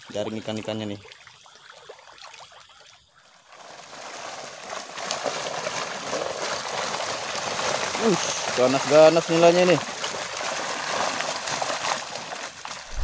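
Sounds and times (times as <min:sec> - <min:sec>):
water splashing: 0:00.0 - 0:13.0
fish thrashing in a net: 0:01.2 - 0:13.0.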